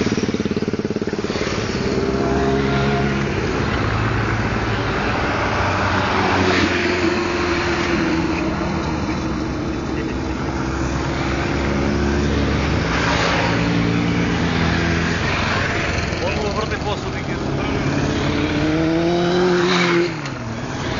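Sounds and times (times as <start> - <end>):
motorcycles riding by: 0.0 - 20.9.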